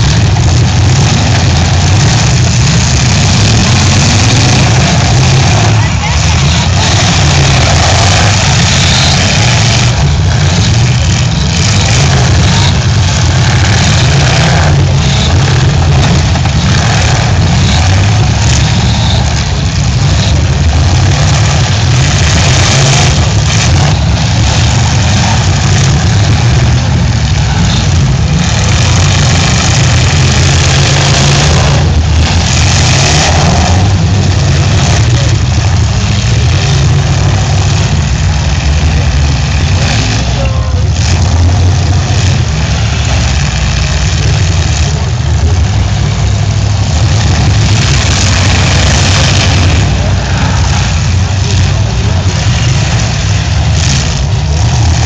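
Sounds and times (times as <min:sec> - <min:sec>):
car engines running loudly: 0:00.0 - 0:55.0.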